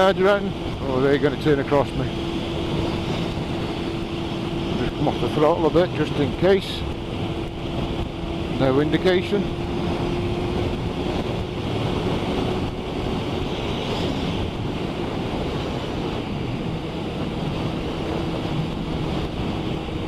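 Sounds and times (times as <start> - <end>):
motorcycle engine humming: 0.0 - 20.0
wind buffeting microphone: 0.0 - 20.0.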